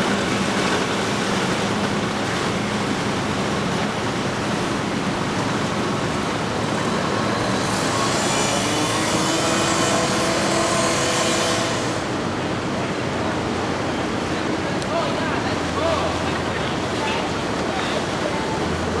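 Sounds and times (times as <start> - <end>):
boat engine drone: 0.0 - 19.0
churning boat wake: 0.0 - 19.0.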